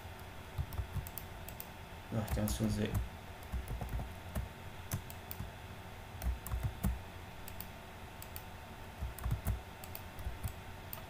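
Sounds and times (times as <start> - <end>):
keyboard and mouse clicks: 0.6 - 5.5, 6.2 - 11.0.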